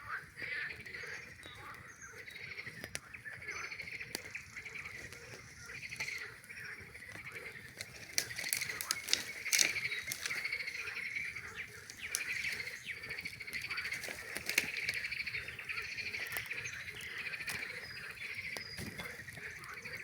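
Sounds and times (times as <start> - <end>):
campfire crackling and popping: 0.0 - 20.0
frogs calling: 0.0 - 20.0.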